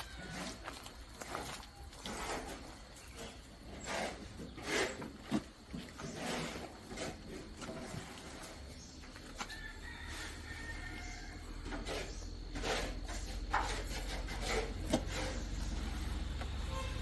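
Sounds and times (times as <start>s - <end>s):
goats rustling and shuffling: 0.0s - 17.0s.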